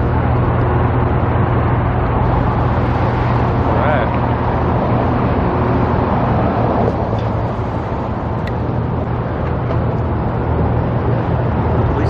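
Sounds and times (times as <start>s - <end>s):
low engine hum: 0.0s - 12.0s
traffic noise: 0.0s - 12.0s.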